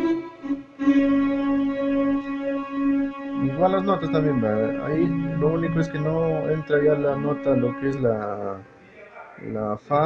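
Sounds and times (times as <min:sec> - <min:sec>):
keyboard playing slow melody: 0:00.0 - 0:08.8.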